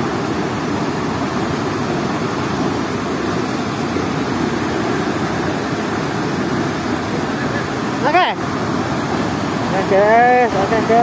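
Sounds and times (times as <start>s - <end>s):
water rushing through sluice gate: 0.0s - 11.0s.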